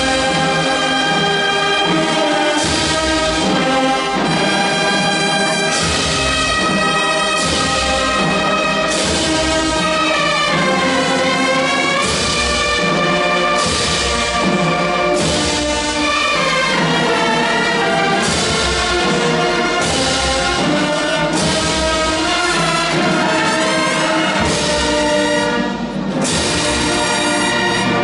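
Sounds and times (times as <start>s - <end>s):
brass band playing slow chords: 0.0s - 28.0s.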